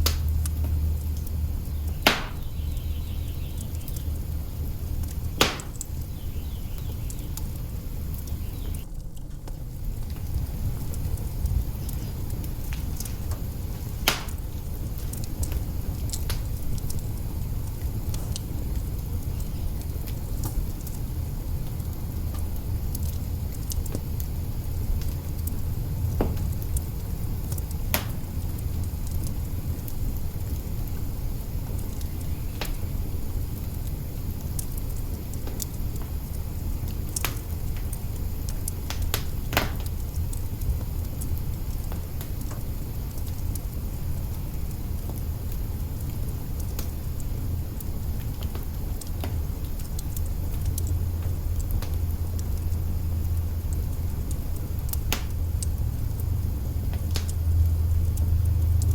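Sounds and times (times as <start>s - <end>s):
fire crackling and popping: 0.0s - 58.9s
fire flames rumbling: 0.0s - 58.9s.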